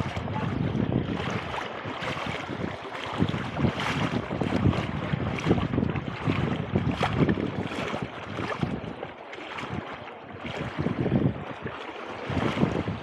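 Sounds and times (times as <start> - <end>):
small waves on shore: 0.0 - 13.0
wind buffeting microphone: 0.0 - 13.0.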